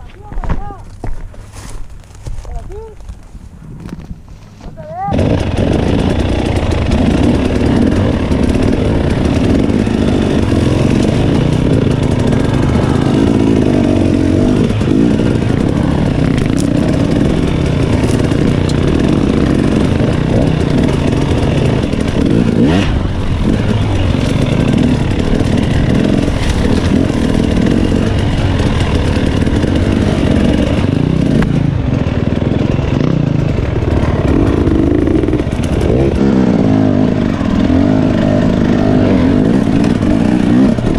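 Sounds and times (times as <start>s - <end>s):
dirt bike engine revving: 5.0s - 40.9s.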